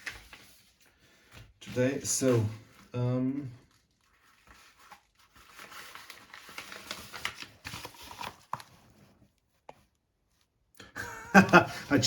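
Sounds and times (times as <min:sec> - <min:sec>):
paper packaging rustling: 0:00.0 - 0:10.5.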